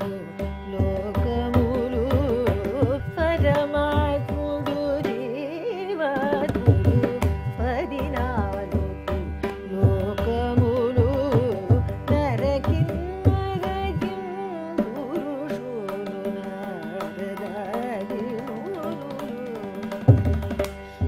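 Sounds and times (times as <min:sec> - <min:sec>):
woman singing ornamented melody: 0:00.0 - 0:20.0.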